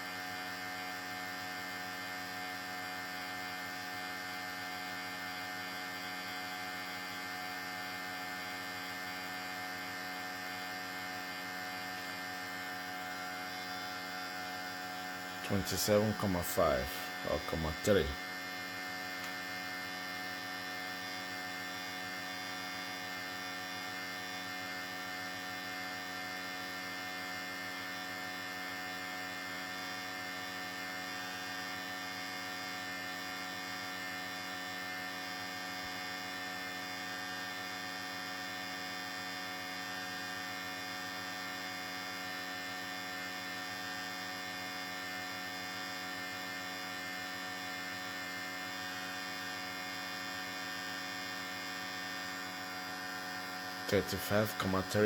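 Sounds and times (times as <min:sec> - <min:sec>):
electric hair clippers humming: 0:00.0 - 0:55.0.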